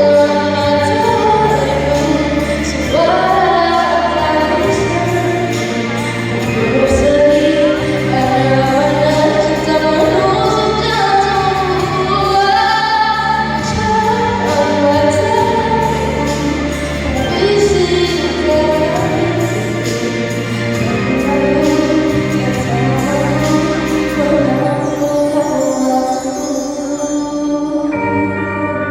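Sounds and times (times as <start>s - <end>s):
musical accompaniment with bass: 0.0s - 28.9s
woman singing: 0.0s - 28.9s.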